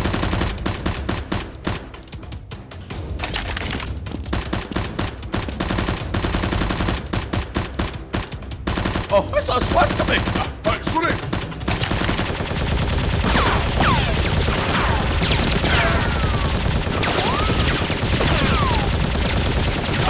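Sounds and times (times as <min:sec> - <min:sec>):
rapid automatic gunfire: 0:00.0 - 0:01.9, 0:04.3 - 0:20.0.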